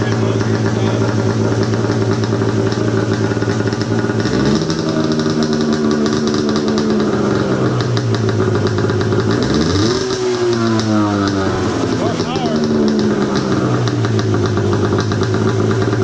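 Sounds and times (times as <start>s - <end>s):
engine revving through short exhaust: 0.0s - 16.0s.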